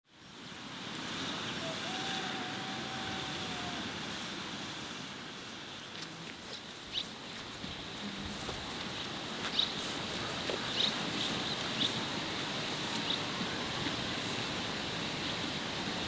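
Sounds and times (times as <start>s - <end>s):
rain: 0.0s - 16.0s
wind: 0.0s - 16.0s
running water: 0.2s - 16.0s.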